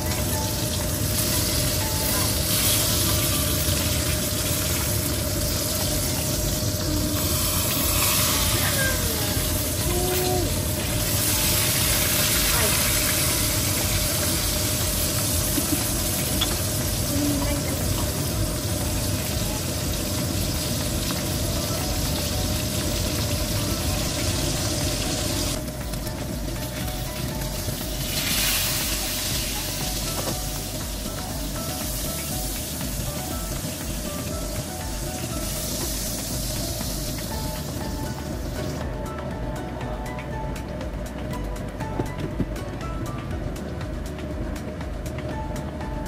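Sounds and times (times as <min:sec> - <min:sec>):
fish sizzling in hot oil: 0:00.0 - 0:38.8.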